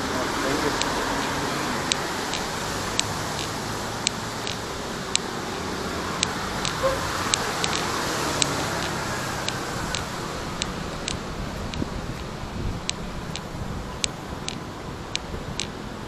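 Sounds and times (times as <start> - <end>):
city traffic hiss: 0.0 - 16.0.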